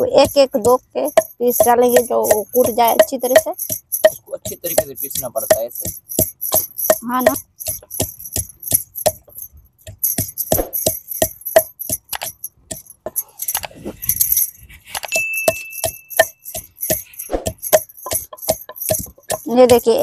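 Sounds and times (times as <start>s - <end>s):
wooden pestle pounding in mortar: 0.0s - 13.2s, 15.0s - 20.0s
bangles jingling: 0.0s - 20.0s.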